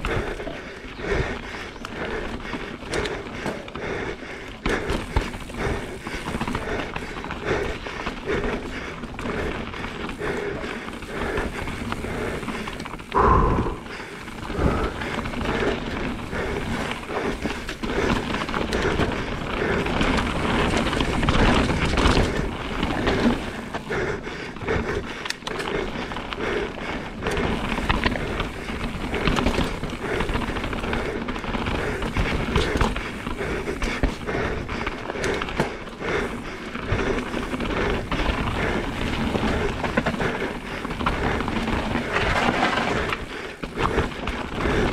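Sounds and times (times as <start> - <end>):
mountain bike tyre noise: 0.0 - 44.9.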